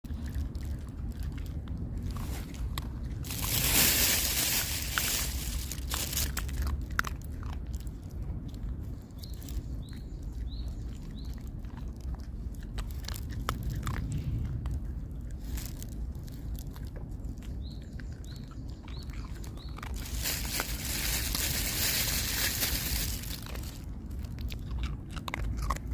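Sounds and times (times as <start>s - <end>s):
dog crunching and chewing food: 0.0s - 25.9s.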